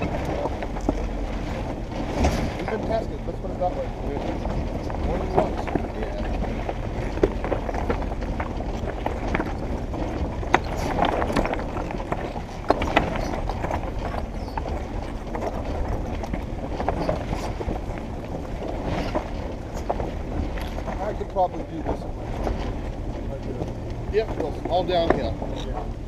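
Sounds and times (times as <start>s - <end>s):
low engine rumble: 0.0s - 26.0s
tires knocking over rocks: 0.0s - 26.0s.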